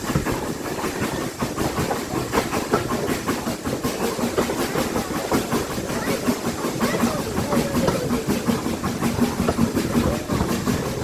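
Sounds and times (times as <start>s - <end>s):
train running noise: 0.0s - 11.0s
train wheels clattering on track: 0.0s - 11.0s.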